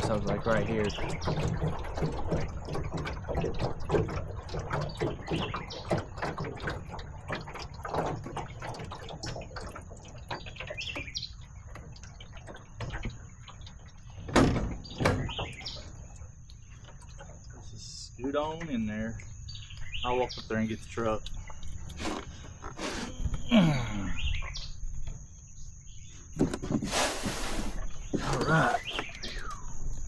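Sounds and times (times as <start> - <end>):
boat gear knocking and clunking: 0.0 - 17.6, 18.3 - 19.0, 19.6 - 23.5, 26.3 - 26.9, 27.8 - 30.0.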